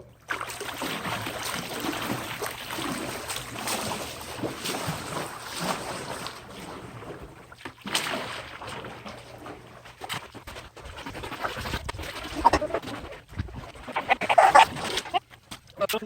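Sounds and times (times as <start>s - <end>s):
paddles splashing pool water: 0.0s - 16.0s.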